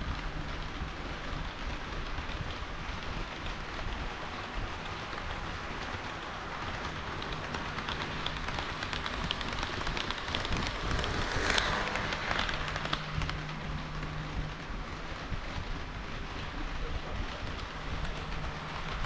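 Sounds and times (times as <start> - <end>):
model train wheels rushing on rails: 0.0 - 19.0.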